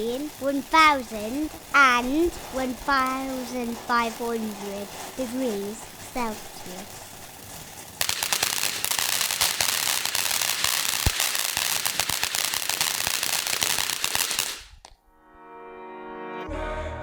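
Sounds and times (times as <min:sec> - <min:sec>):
fireworks crackling: 0:00.0 - 0:14.9.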